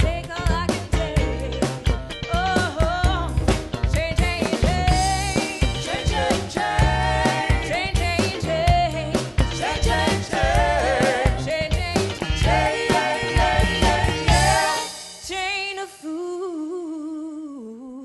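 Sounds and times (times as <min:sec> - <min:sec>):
drum kit beat: 0:00.0 - 0:15.6
live funk band playing: 0:00.0 - 0:15.6.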